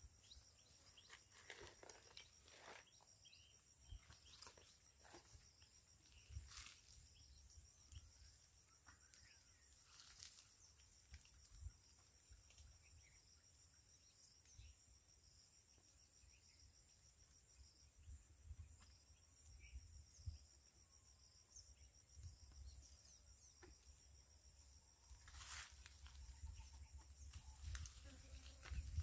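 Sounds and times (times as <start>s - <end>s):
crickets chorus: 0.0s - 29.0s
faint chirps: 0.0s - 29.0s.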